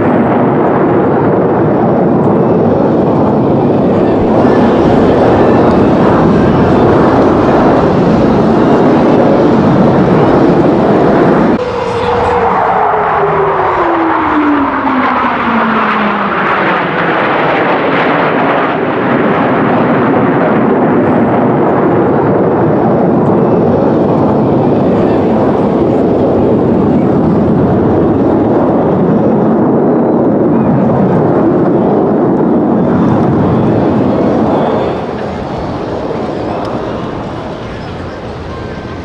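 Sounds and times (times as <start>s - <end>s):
jet aircraft flying past: 0.0s - 39.0s.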